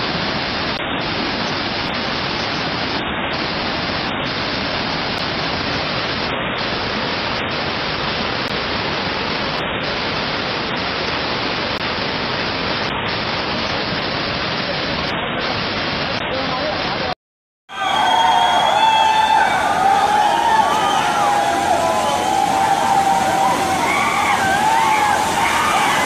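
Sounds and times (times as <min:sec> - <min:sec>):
flood torrent rushing: 0:00.0 - 0:26.0.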